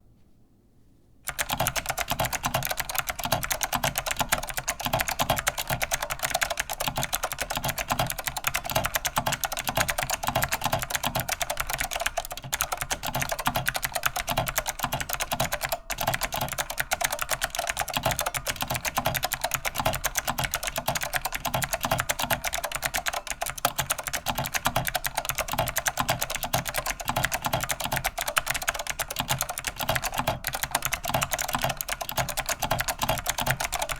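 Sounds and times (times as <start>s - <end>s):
fast typing on clicky keyboard: 1.3s - 33.9s.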